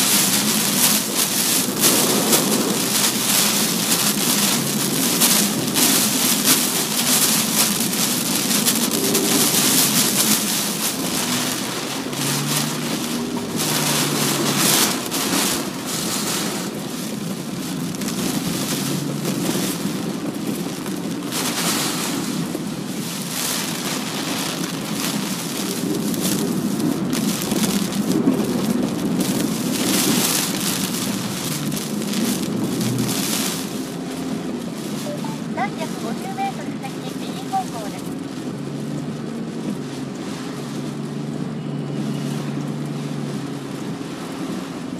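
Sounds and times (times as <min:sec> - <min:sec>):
heavy rain and wind on car: 0:00.0 - 0:44.9
road and engine noise: 0:00.0 - 0:44.9.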